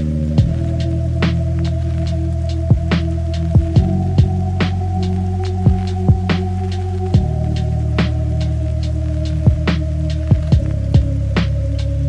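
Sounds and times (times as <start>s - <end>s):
instrumental chillhop beat: 0.0s - 12.0s.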